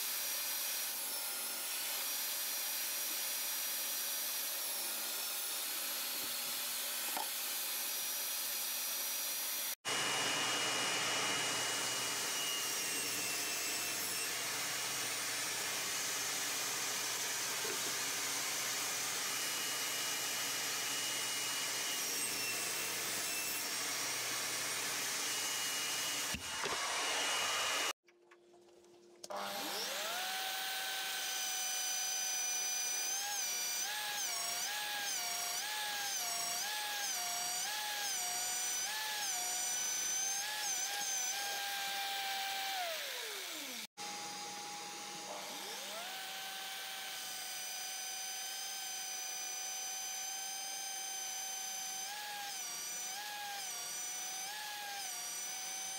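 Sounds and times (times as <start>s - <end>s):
drill spinning up: 0.0s - 28.0s, 29.3s - 55.9s
table saw motor whine: 9.4s - 28.0s, 29.3s - 55.9s.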